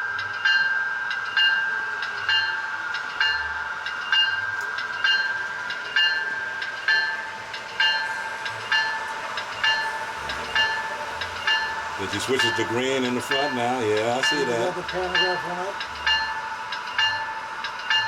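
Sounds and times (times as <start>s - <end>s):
model train bell ringing: 0.0s - 18.0s
model train running: 0.0s - 18.0s.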